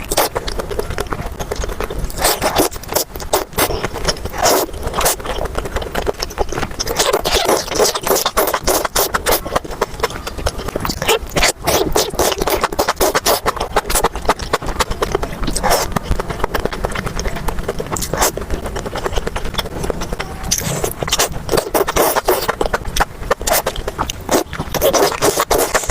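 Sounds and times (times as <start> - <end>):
chewing and mouth sounds: 0.0 - 25.9.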